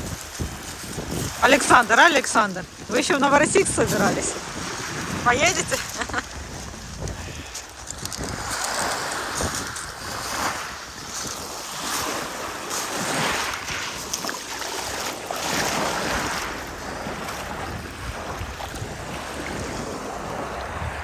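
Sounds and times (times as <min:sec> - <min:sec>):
waves lapping on pebble shore: 0:00.0 - 0:21.0.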